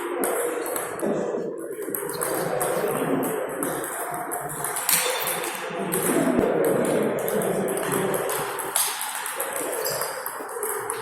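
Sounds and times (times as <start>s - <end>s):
table tennis balls clicking: 1.8s - 11.0s.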